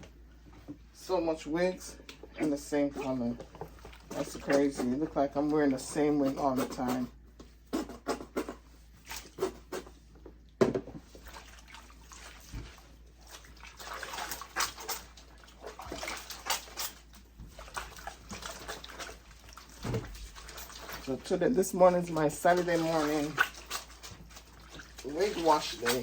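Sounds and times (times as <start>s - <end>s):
water splashing and sloshing: 0.4s - 7.1s, 8.4s - 26.0s.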